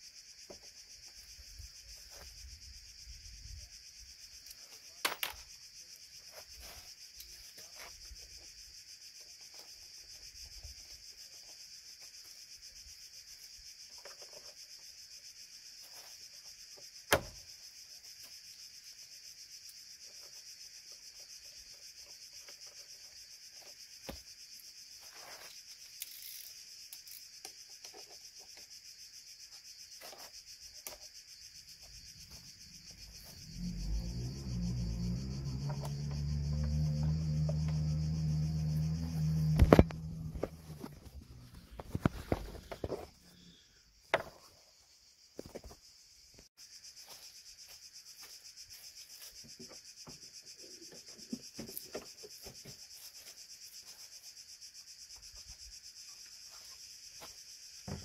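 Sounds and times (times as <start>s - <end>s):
insect chorus: 0.0s - 58.0s.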